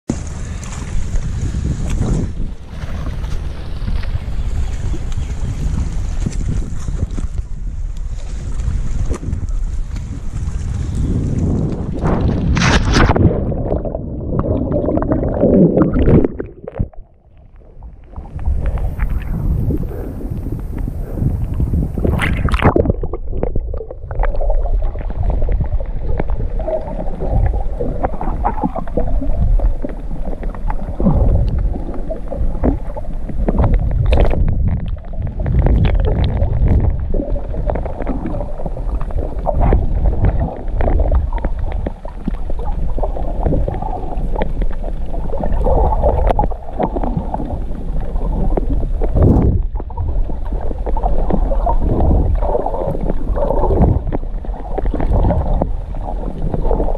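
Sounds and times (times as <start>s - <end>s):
underwater rumble and gurgling: 0.1s - 56.9s.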